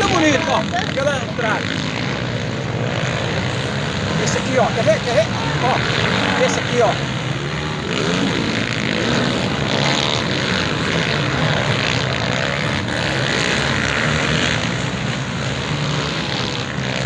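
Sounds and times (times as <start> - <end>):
motorcycle engines running hard: 0.0 - 17.0.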